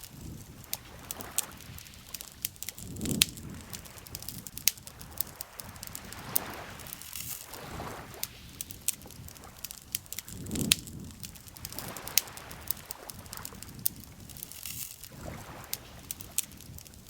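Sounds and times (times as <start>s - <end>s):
campfire wood crackling: 0.0s - 17.0s
lake water lapping: 0.0s - 17.0s.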